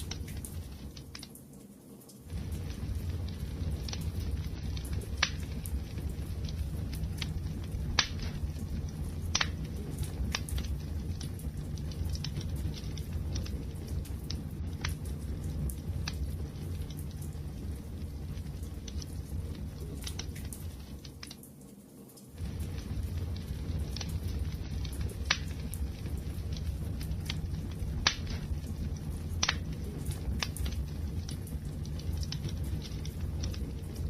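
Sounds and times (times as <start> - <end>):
low rumble of burning: 0.0 - 34.0
wood fire crackling: 0.0 - 34.0.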